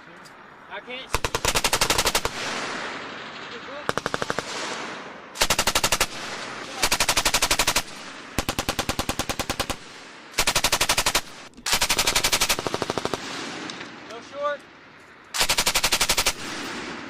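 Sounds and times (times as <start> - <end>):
machine gun firing bursts: 1.1 - 13.6, 15.4 - 17.0.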